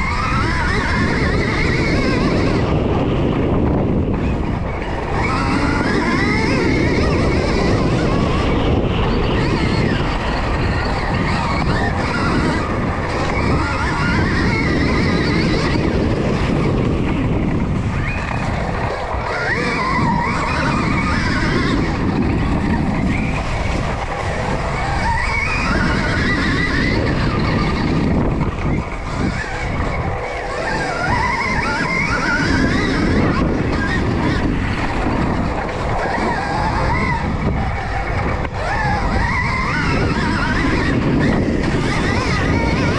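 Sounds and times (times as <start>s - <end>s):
electric motorbike motor whine: 0.0s - 42.9s
knobby tyre noise: 0.0s - 42.9s
wind: 0.0s - 42.9s.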